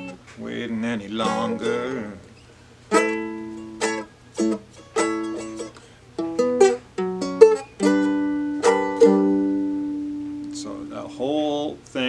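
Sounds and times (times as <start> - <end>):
fretted string instrument strummed: 0.0 - 0.2, 1.2 - 2.2, 2.9 - 11.6
picked string notes: 0.0 - 11.9.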